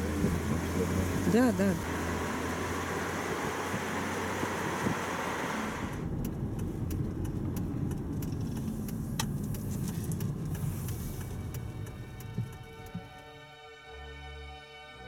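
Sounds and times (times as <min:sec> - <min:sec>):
road and wind rush: 0:00.0 - 0:13.2
tyre and engine rumble: 0:00.0 - 0:13.4.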